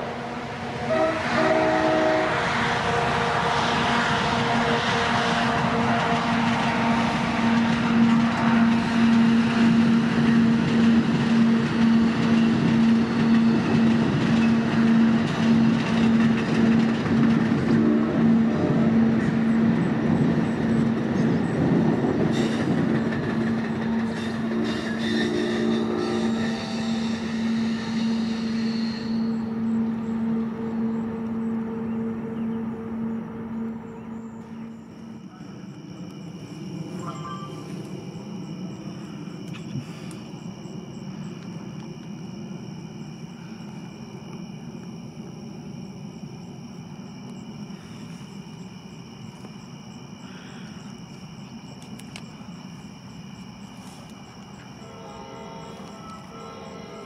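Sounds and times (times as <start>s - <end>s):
crickets trilling: 0.0s - 57.0s
passing train humming: 0.0s - 57.0s
wheel and rail noise: 0.0s - 57.0s.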